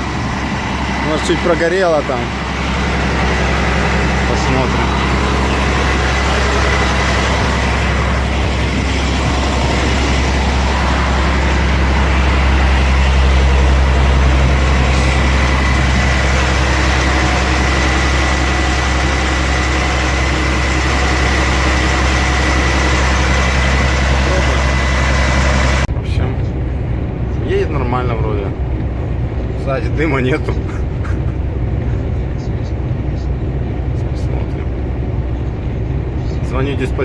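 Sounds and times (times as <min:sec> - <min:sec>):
truck engine drone: 0:00.0 - 0:37.0.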